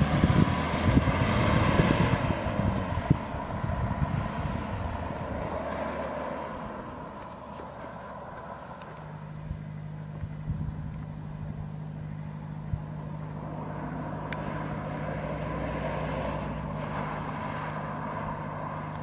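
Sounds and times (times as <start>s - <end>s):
car engine humming: 0.0s - 19.0s
road noise: 0.0s - 19.0s.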